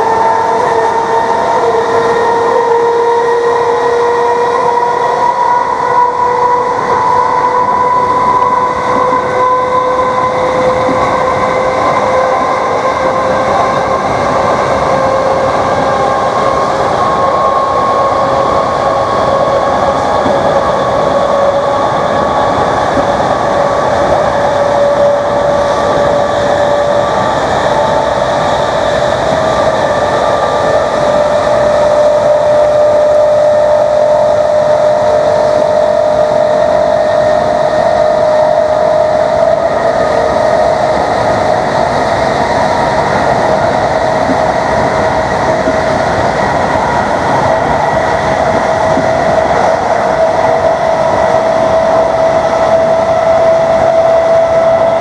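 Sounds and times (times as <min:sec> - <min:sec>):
train traction motors whining: 0:00.0 - 0:55.0
train wheels on track: 0:00.0 - 0:55.0.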